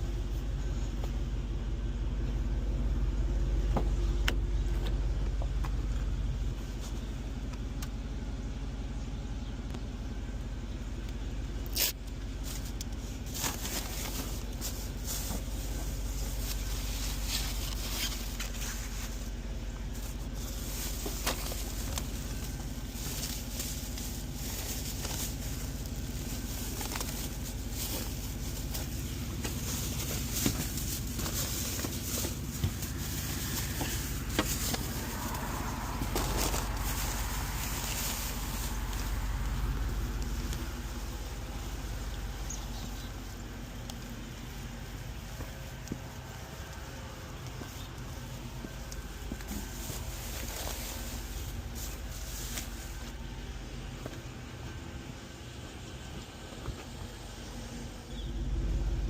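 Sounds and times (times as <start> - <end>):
car engine rumble from inside: 0.0 - 59.0.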